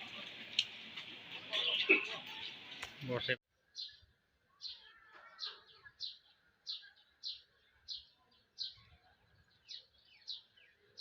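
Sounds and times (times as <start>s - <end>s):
small bird chirping: 1.5s - 11.0s.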